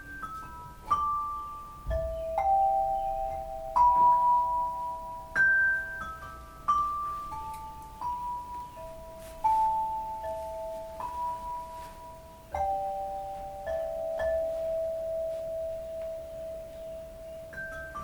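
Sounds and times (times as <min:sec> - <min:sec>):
tuned metal percussion melody: 0:00.0 - 0:18.0.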